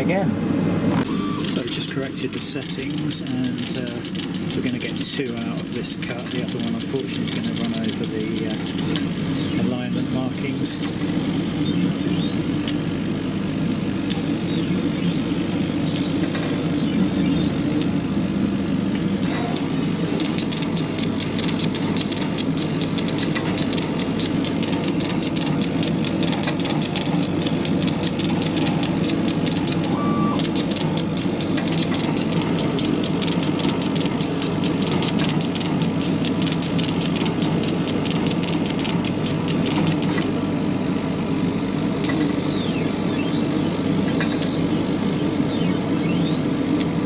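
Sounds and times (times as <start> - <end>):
fan and air pump drone: 0.0 - 47.0
short gliding motor whines: 1.0 - 40.2, 42.0 - 47.0
fast fine motor ticking: 1.0 - 47.0.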